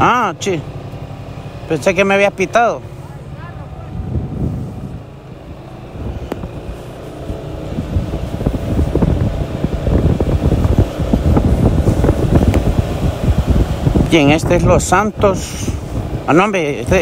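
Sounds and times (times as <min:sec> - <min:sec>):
wind buffeting microphone: 0:03.1 - 0:17.0.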